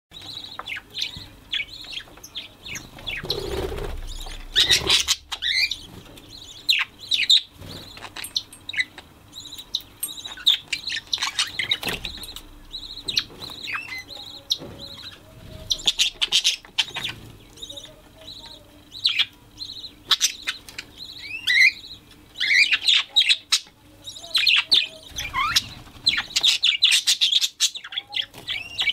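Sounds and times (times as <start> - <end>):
budgerigars chattering: 0.2 - 28.9.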